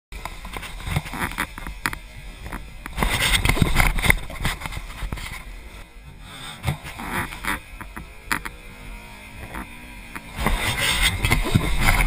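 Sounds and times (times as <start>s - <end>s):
dirt bike engine popping: 0.2s - 5.5s, 6.6s - 8.7s, 9.4s - 12.0s.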